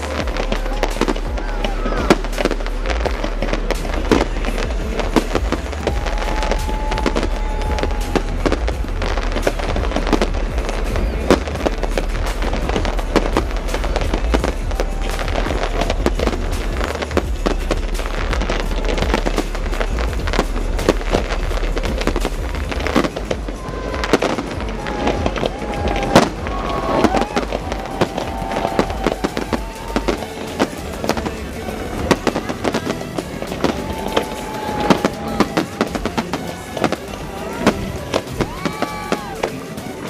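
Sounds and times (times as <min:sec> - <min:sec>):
fireworks bursting and crackling: 0:00.0 - 0:40.0
music: 0:00.0 - 0:40.0.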